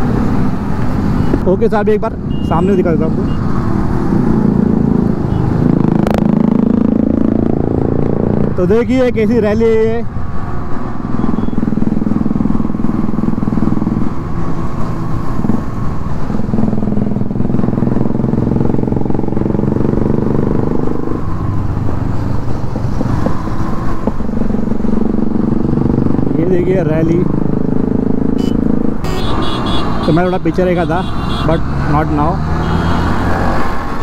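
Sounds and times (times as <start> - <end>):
other motorcycles riding: 0.0 - 34.0.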